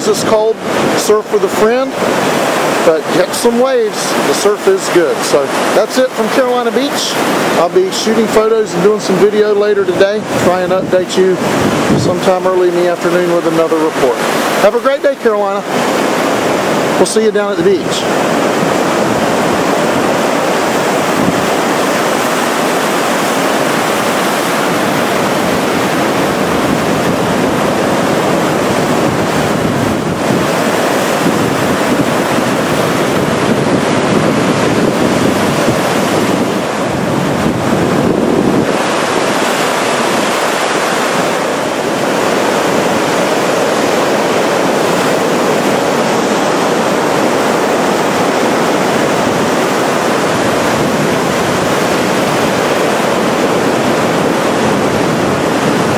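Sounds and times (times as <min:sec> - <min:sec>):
ocean waves breaking: 0:00.0 - 0:55.9.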